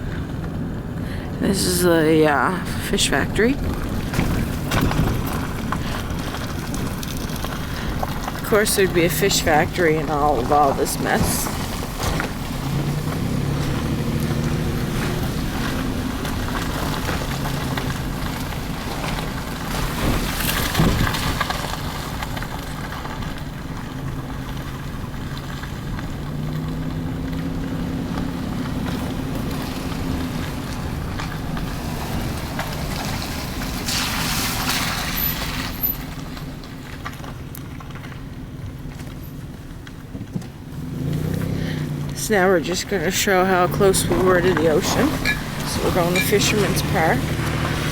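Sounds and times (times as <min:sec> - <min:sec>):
car engine hum: 0:00.0 - 0:47.9.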